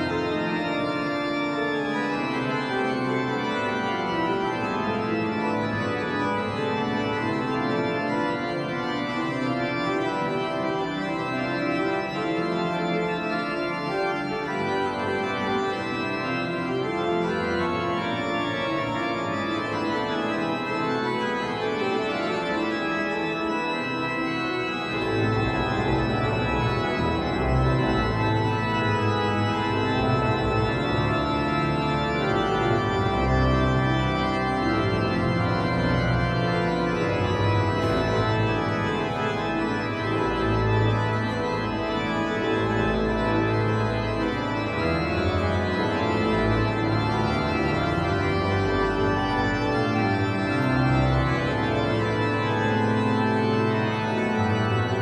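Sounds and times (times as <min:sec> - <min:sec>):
deep organ pedal bass: 0:00.0 - 0:55.0
pipe organ playing: 0:00.0 - 0:55.0.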